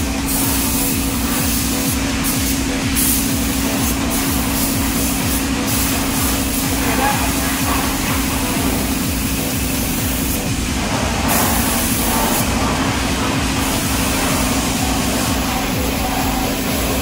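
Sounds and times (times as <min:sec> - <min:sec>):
low mechanical hum: 0:00.0 - 0:17.0
paint spray gun hissing: 0:00.0 - 0:17.0.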